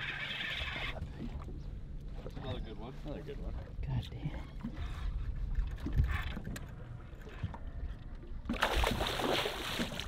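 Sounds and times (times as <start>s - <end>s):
low rumble of wind and water: 0.0s - 10.0s.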